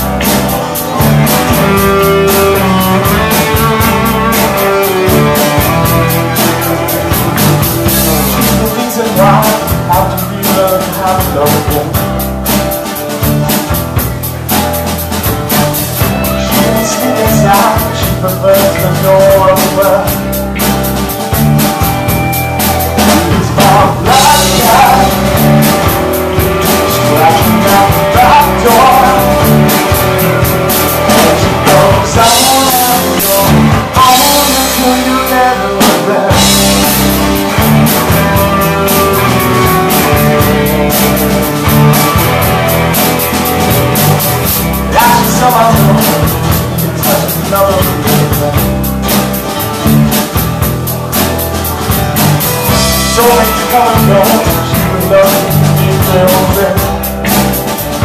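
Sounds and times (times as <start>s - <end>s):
person singing: 0.0s - 12.2s, 16.0s - 20.4s, 22.9s - 48.9s, 52.5s - 57.4s
bass guitar: 0.0s - 58.0s
drum kit beat: 0.0s - 58.0s
electric guitars: 0.0s - 58.0s.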